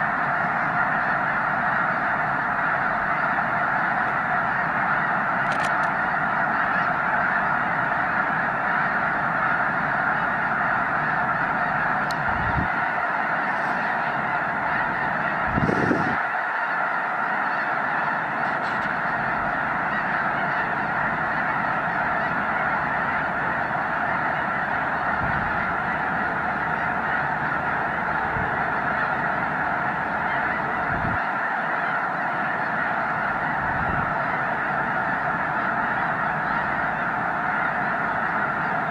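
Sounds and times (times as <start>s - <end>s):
geese honking in flight: 0.0s - 38.9s.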